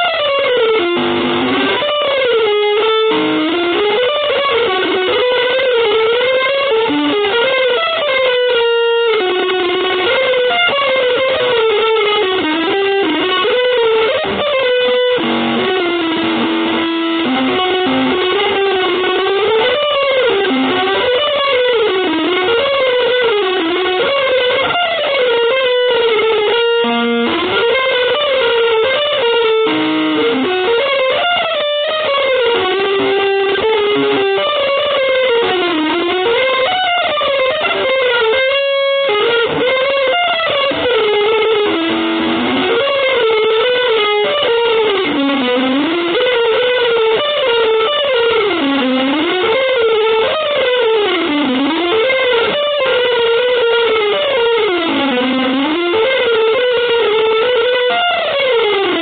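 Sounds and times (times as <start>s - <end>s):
electric guitar melody with bends: 0.0s - 59.0s.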